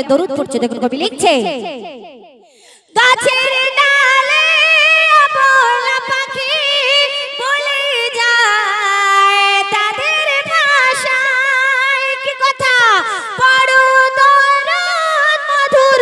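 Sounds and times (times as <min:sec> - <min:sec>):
woman singing into microphone: 0:02.6 - 0:16.0.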